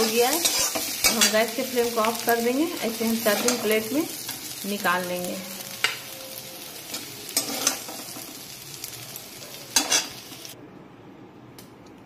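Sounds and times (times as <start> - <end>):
food sizzling in hot oil: 0.0 - 10.6.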